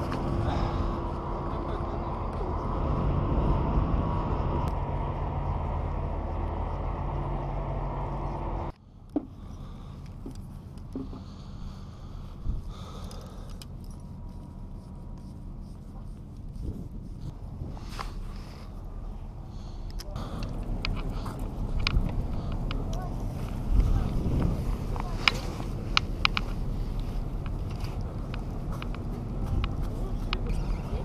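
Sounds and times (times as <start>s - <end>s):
machinery engine drone: 0.0s - 31.0s.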